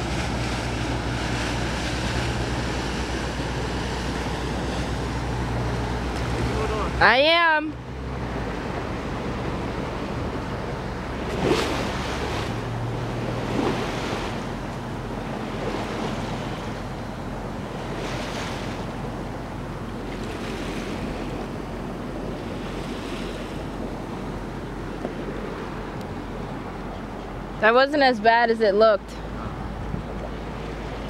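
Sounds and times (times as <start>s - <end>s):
low hum: 0.0s - 31.0s
water rushing past hull: 0.0s - 31.0s
water splashing against hull: 0.0s - 31.0s.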